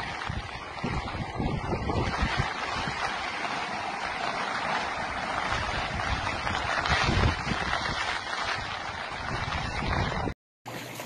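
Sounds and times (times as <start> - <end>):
floodwater rushing: 0.0 - 10.4
wind buffeting microphone: 0.0 - 10.4.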